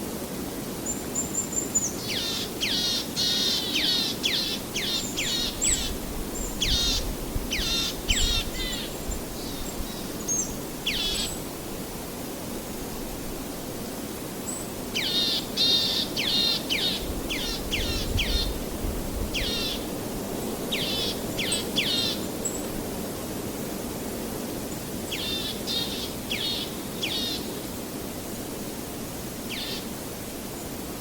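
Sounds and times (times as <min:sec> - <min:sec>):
rushing nature ambience: 0:00.0 - 0:31.0.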